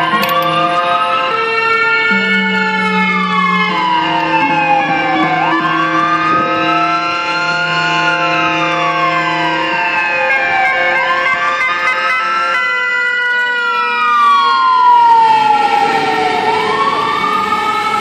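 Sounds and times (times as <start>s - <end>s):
emergency vehicle siren wailing: 0.0s - 18.0s.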